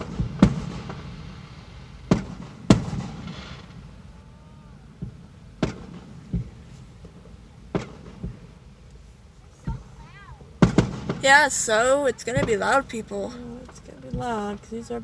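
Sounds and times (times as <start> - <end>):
firework crackle: 0.0 - 15.0
firework shells booming: 0.0 - 15.0.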